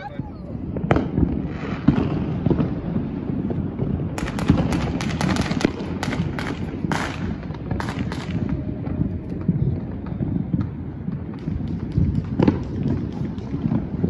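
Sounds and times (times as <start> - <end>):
fireworks popping and crackling: 0.0 - 14.0.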